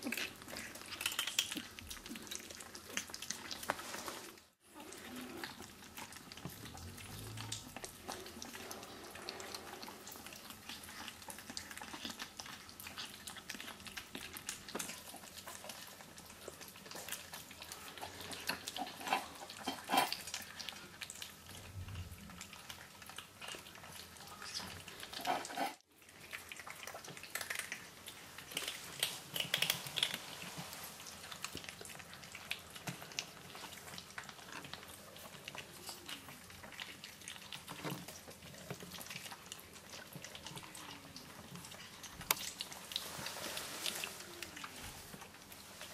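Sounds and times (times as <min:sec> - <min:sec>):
kittens chewing and licking: 0:00.0 - 0:45.9.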